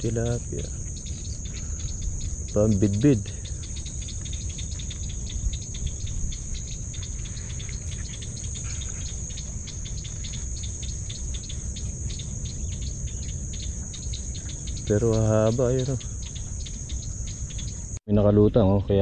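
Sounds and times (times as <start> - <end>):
insect chirps: 0.0 - 19.0
insect trill: 0.0 - 19.0.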